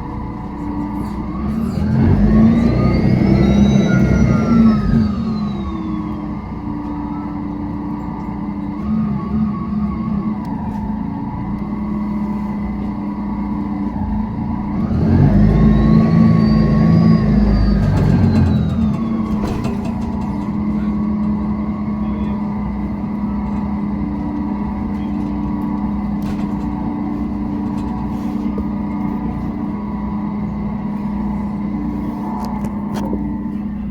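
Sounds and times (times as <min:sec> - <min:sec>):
bus engine running: 0:00.0 - 0:33.9
high engine whine: 0:00.0 - 0:33.9.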